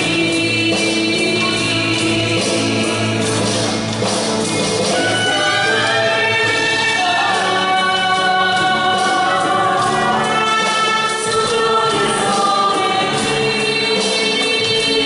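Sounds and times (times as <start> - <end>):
choir singing worship music: 0.0 - 15.0.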